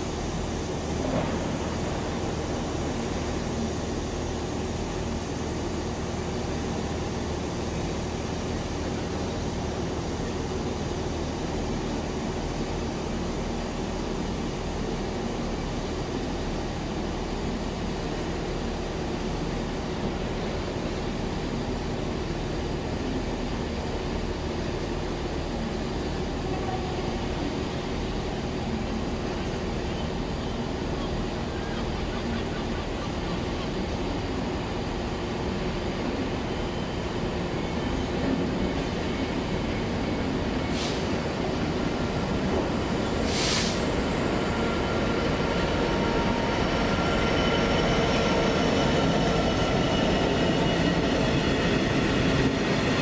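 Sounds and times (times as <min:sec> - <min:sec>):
diesel locomotive engine hum: 0:00.0 - 0:53.0.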